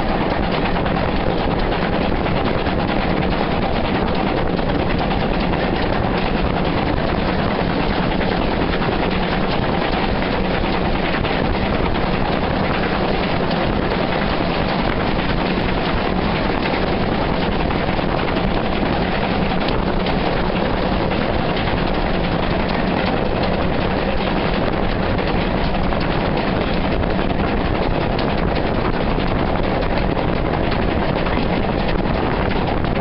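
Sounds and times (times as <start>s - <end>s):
wind rushing on microphone: 0.0s - 33.0s.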